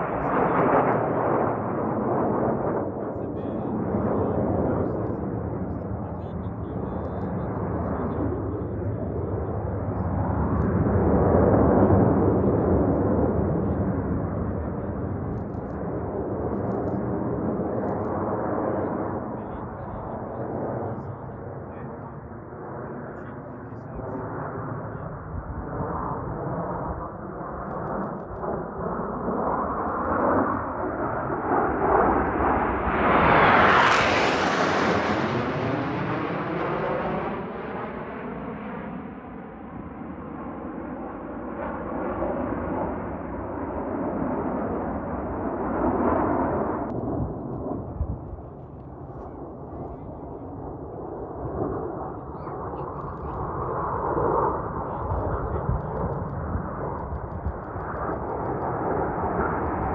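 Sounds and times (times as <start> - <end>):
fighter jets rumbling rush: 0.0 - 59.9.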